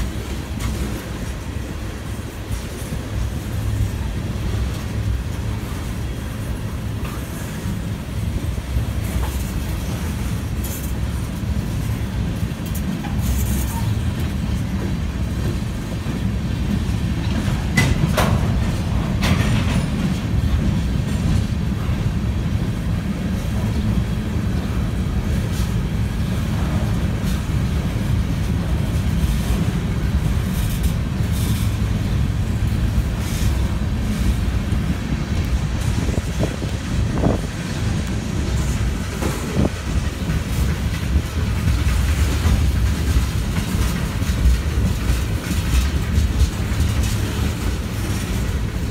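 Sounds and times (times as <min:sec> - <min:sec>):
freight train rumbling: 0:00.0 - 0:48.9
train wheels clicking and knocking: 0:00.0 - 0:48.9.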